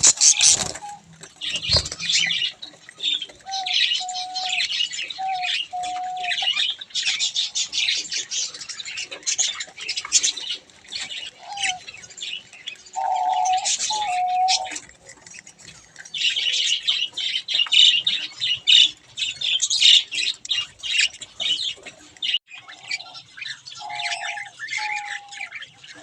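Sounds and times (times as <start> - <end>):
low held bird calls: 0.0 - 14.8, 16.0 - 26.0
budgerigars chattering and chirping: 0.0 - 26.0.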